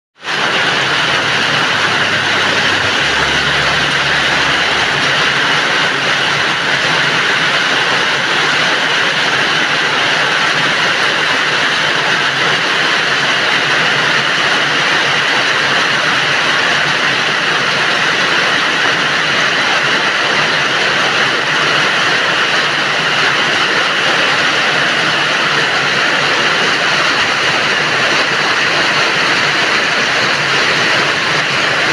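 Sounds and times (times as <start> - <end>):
heavy rain falling: 0.2 - 31.9.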